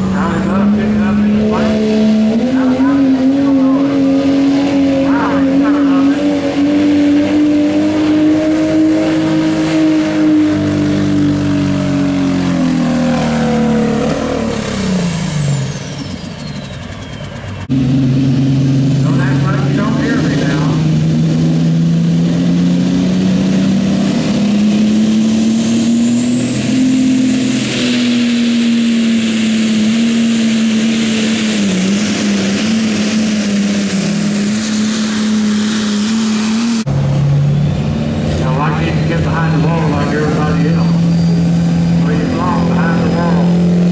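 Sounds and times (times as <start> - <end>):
diesel engine at full throttle: 0.0 - 43.9.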